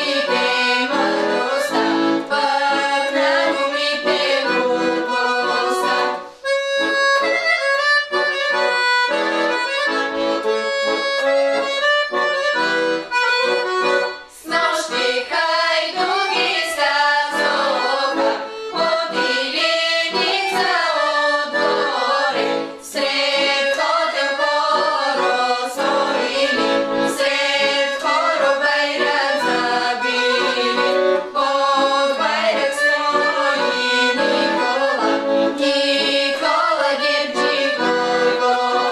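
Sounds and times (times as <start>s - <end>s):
accordion tune: 0.0s - 38.9s.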